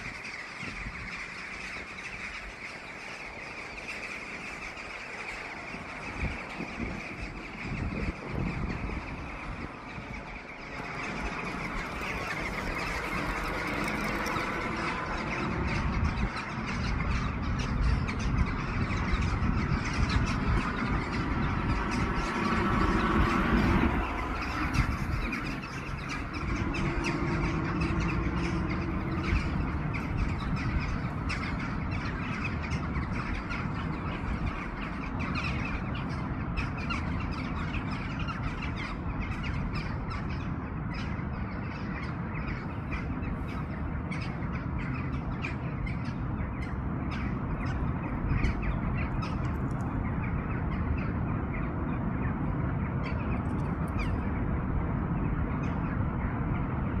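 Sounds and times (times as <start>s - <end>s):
birds calling: 0.0s - 57.0s
steady low rumble: 0.0s - 57.0s.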